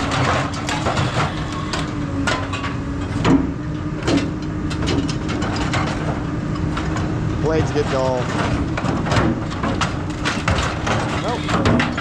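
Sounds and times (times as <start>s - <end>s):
scrap metal clanking: 0.0s - 3.4s, 4.0s - 12.0s
hydraulic shear humming: 0.0s - 12.0s.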